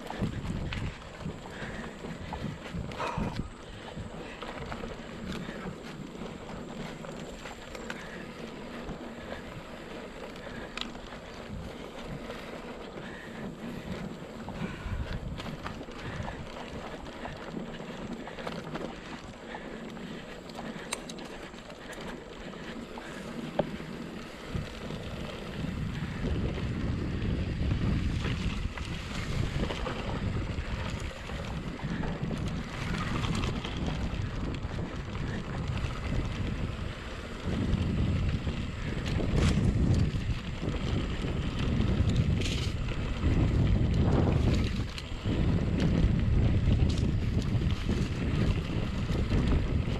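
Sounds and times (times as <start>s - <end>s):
bike clicks and rattles: 0.0s - 49.9s
tyres rumbling on dirt: 0.0s - 49.9s
wind noise on microphone: 0.0s - 49.9s.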